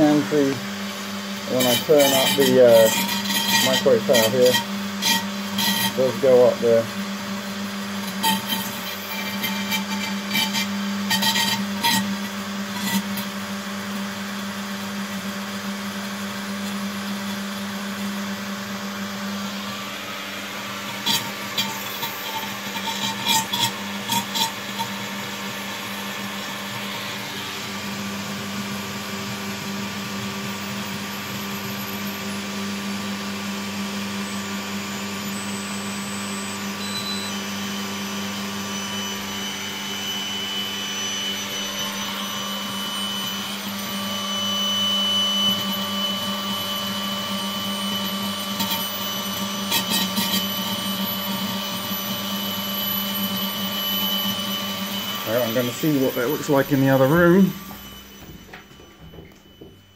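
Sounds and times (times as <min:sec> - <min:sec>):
electric motor and fan humming: 0:00.0 - 0:59.9.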